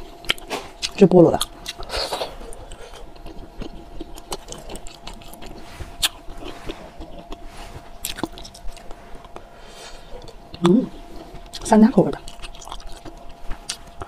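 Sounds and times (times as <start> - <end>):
wet chewing of candy: 0.2 - 14.0.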